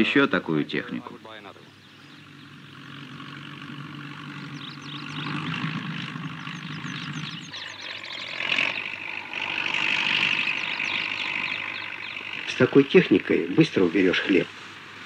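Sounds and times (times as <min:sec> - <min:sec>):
combine harvester engine drone: 0:00.0 - 0:15.0.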